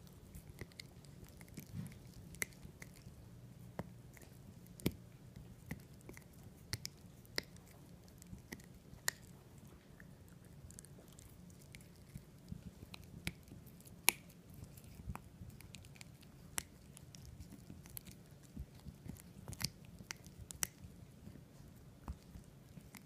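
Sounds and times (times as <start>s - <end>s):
dog chewing and biting: 0.0s - 23.0s.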